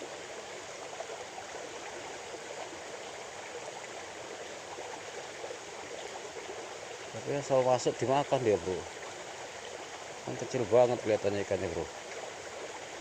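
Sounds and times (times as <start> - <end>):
stream babbling: 0.0 - 13.0.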